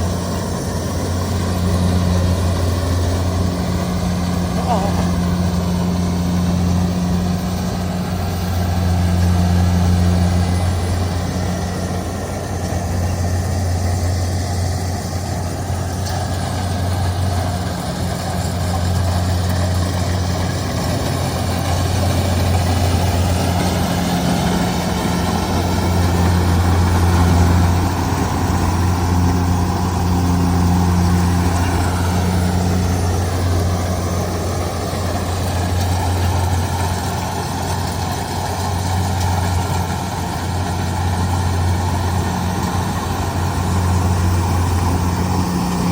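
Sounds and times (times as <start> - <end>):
combine harvester engine running: 0.0 - 45.9.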